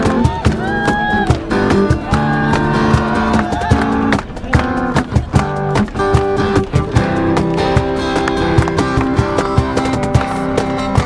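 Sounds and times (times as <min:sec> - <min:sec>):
acoustic guitars strumming: 0:00.0 - 0:11.0.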